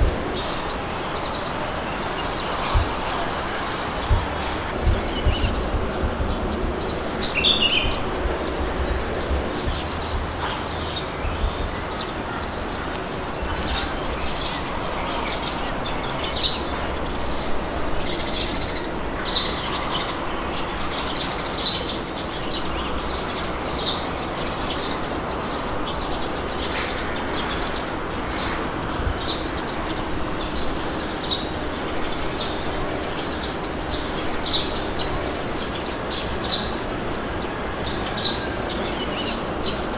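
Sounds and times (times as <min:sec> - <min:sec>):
birds chirping: 0:00.0 - 0:39.9
wind blowing: 0:00.0 - 0:39.9.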